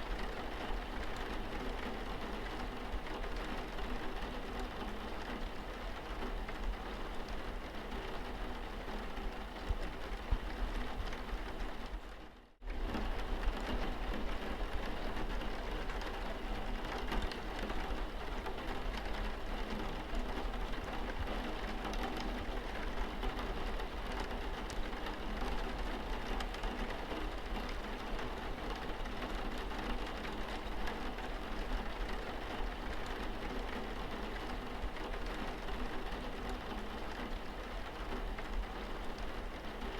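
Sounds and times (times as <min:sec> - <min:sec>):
rain pattering on windscreen: 0:00.0 - 0:39.9.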